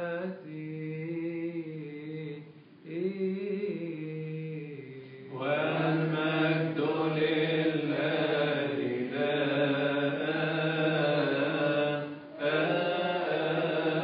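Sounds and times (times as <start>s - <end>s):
low male liturgical chant: 0.0s - 14.0s.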